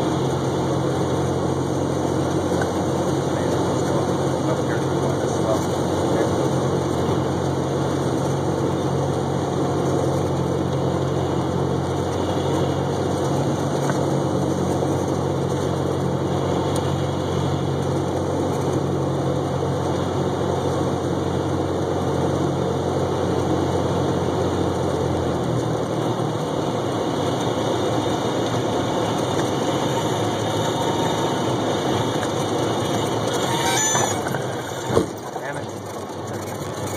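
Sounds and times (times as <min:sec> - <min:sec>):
propeller plane engine drone: 0:00.0 - 0:36.9.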